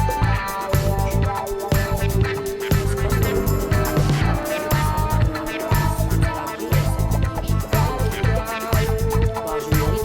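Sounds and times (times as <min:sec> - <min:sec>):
music through phone speakers: 0:00.0 - 0:10.0.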